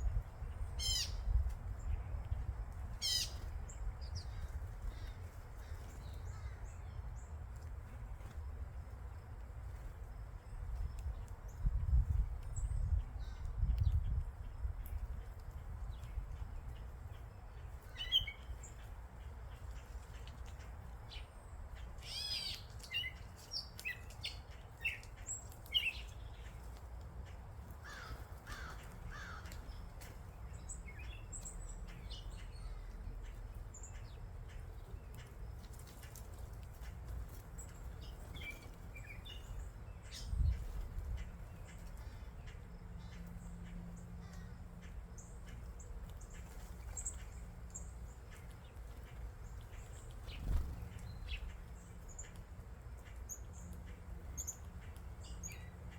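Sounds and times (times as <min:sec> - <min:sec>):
birds chirping and calling: 0:00.1 - 0:01.4, 0:02.9 - 0:06.9, 0:16.0 - 0:55.9.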